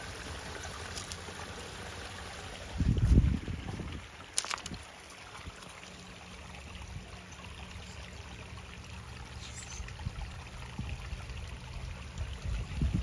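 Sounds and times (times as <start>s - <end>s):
waterfall pouring into pond: 0.0s - 13.0s.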